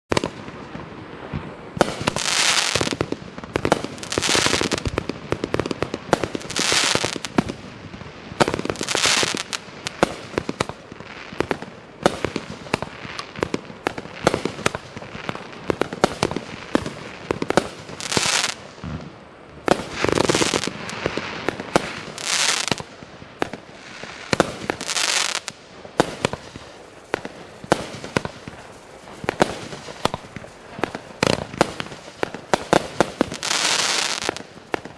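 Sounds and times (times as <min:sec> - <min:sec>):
firework crackling pops: 0:00.1 - 0:34.9
firework shots hissing: 0:00.1 - 0:34.9.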